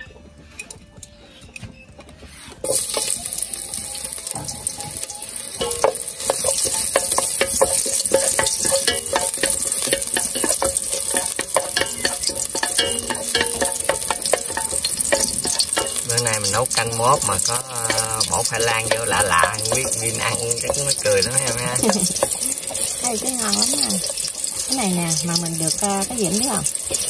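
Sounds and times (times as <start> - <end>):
chopsticks scraping a pot: 2.3 - 3.2, 5.6 - 27.0
garlic sizzling in hot oil: 2.6 - 27.0.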